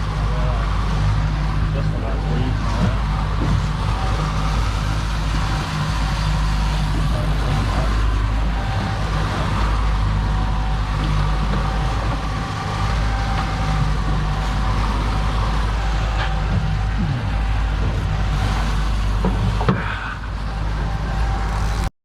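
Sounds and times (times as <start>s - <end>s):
boat engine running: 0.0s - 21.9s.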